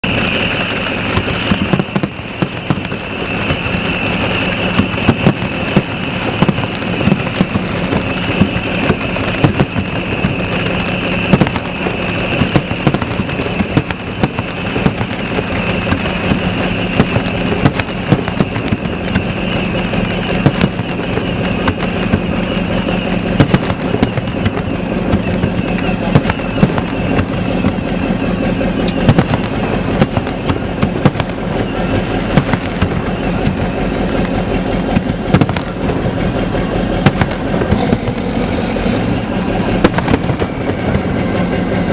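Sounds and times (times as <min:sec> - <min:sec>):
fireworks bangs and crackling pops: 0:00.0 - 0:41.9
steady low rumble: 0:00.0 - 0:41.9.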